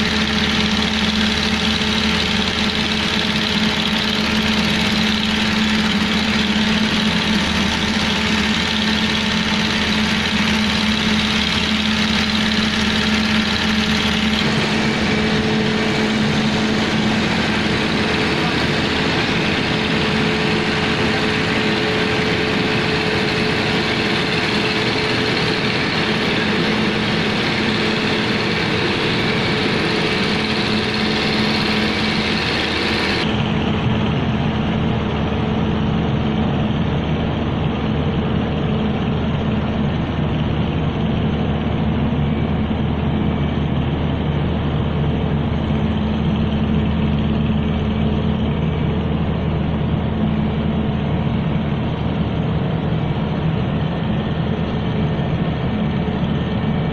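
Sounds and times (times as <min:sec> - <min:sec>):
machine engine running steadily: 0:00.0 - 0:56.9.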